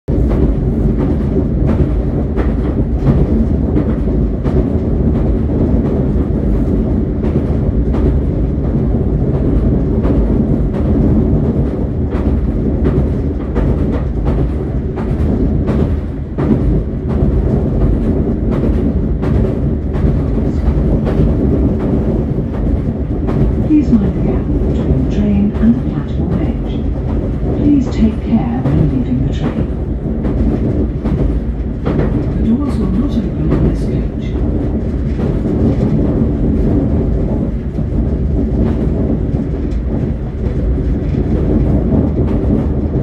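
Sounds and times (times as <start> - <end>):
train rumble inside carriage: 0.0 - 43.0.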